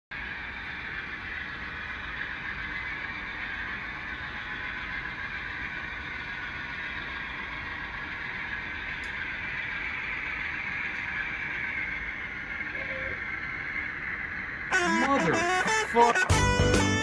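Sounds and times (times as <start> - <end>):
model train mechanical whir: 0.2 - 14.7.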